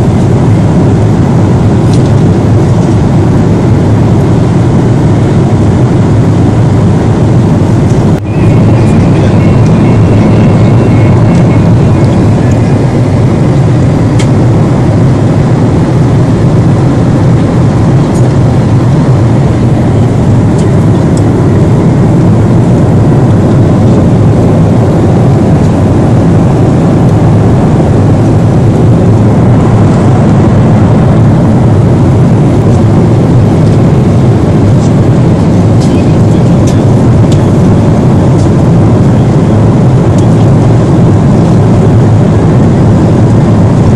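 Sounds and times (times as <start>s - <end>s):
airliner cabin drone: 0.0s - 43.9s.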